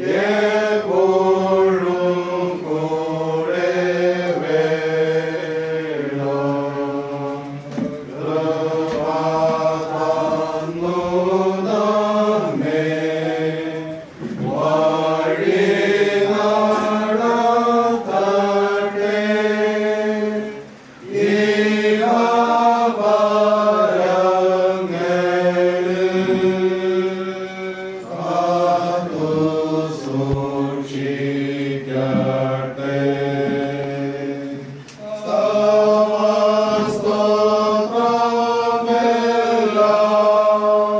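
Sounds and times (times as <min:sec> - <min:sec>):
congregation singing a hymn: 0:00.0 - 0:40.9.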